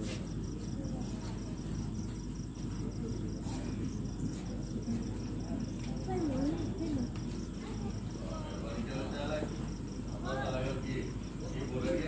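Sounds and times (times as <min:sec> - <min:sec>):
distant voices murmuring: 0:00.0 - 0:12.0
insect chirping: 0:00.0 - 0:12.0
steady low hum: 0:00.0 - 0:12.0.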